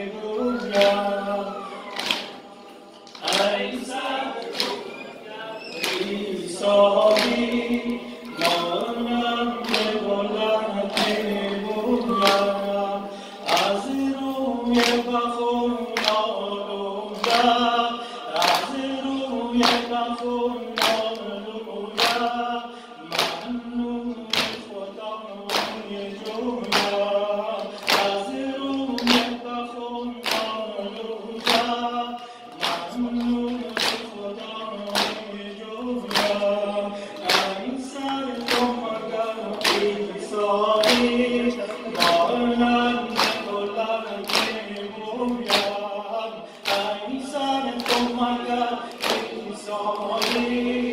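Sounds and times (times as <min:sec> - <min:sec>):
man singing a lament: 0:00.0 - 0:02.5, 0:03.2 - 0:50.9
group singing along: 0:00.0 - 0:50.9.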